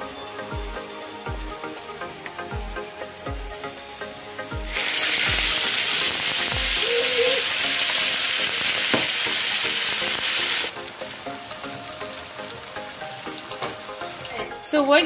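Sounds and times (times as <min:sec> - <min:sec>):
background music: 0:00.0 - 0:15.0
fish sizzling in hot oil: 0:00.3 - 0:15.0.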